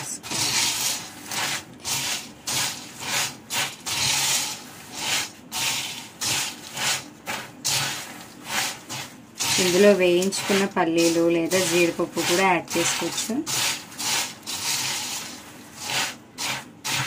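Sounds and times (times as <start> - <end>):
spatula scraping steel bowl: 0.0 - 17.0.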